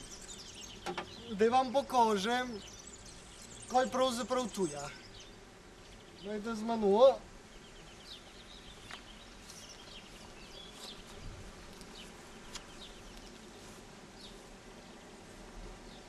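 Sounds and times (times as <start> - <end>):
faint insect buzzing: 0.0 - 16.0.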